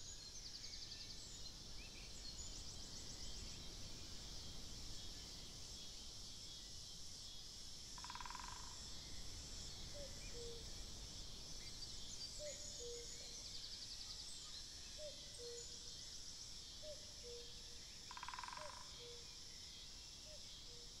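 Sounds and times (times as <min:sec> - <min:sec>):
cicadas buzzing: 0:02.4 - 0:13.7, 0:15.0 - 0:21.0.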